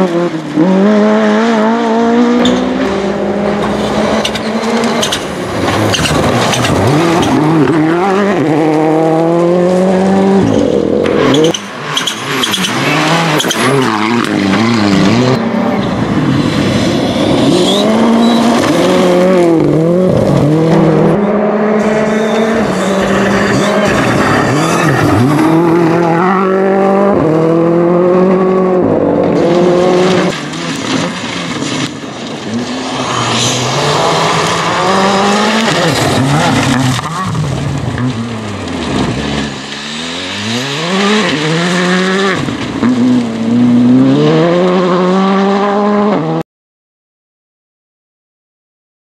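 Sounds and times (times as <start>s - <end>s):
rally car engine at full throttle: 0.0s - 46.4s.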